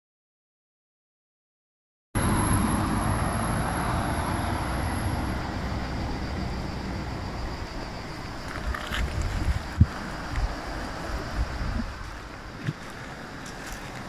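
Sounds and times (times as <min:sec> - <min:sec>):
thin high whine: 0:02.2 - 0:14.0
wind rumbling on microphone: 0:02.2 - 0:14.0.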